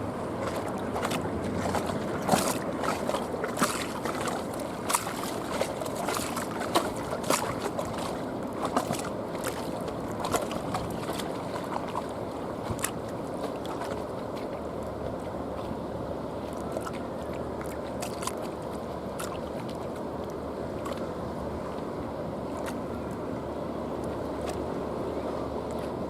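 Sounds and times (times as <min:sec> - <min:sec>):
small waves lapping and splashing: 0:00.0 - 0:26.0
steady low rumble: 0:00.0 - 0:26.0.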